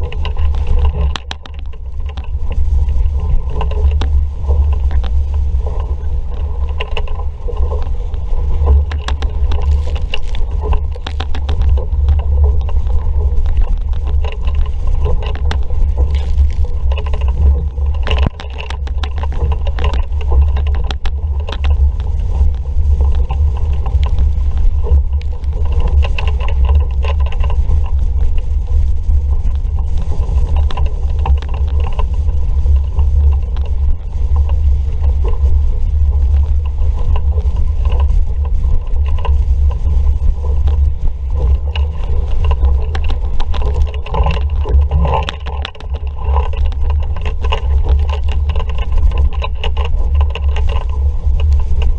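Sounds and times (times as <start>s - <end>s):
water rushing past boat hull: 0.0s - 51.9s
wind rumbling on microphone: 0.0s - 51.9s.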